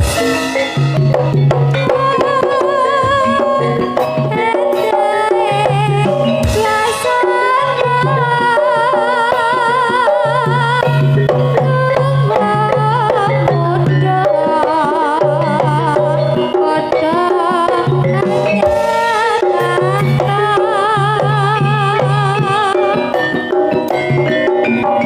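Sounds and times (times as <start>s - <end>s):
hand drums: 0.0s - 25.0s
person singing with vibrato: 1.8s - 24.3s.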